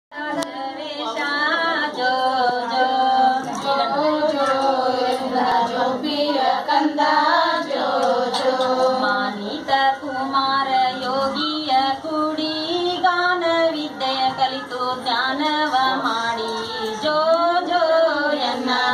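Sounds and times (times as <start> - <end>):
women singing a lullaby: 0.1 - 18.9.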